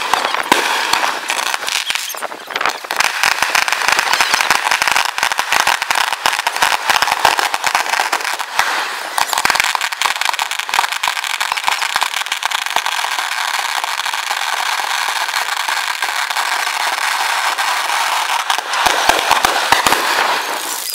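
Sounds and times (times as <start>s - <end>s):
fireworks crackling and popping: 0.0s - 20.9s
sharp firework cracks: 0.0s - 20.9s.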